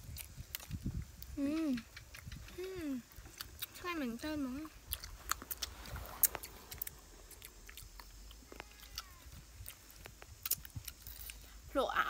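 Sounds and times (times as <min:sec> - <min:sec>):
chewing crispy fried chicken: 0:00.0 - 0:11.5.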